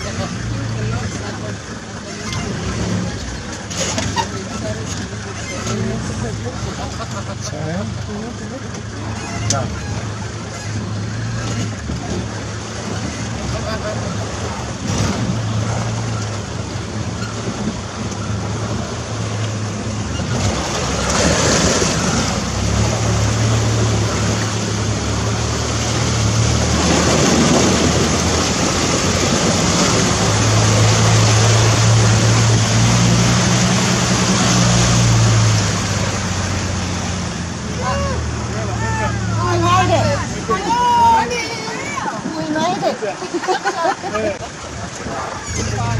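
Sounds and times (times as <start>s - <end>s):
vehicle engine under load: 0.0s - 40.6s
water rushing and splashing: 0.0s - 45.9s.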